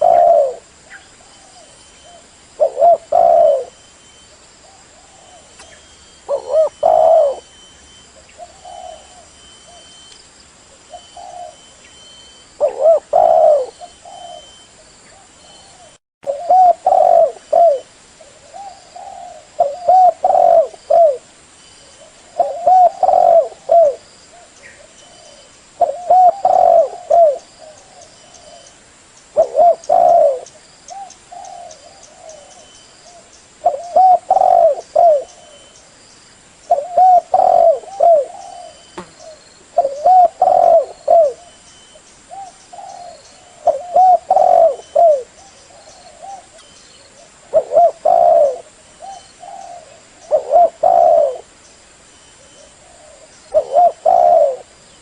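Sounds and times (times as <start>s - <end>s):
dove cooing: 0.0s - 3.9s, 4.6s - 10.0s, 10.9s - 21.3s, 22.0s - 28.7s, 29.4s - 35.8s, 36.7s - 51.5s, 52.4s - 54.8s.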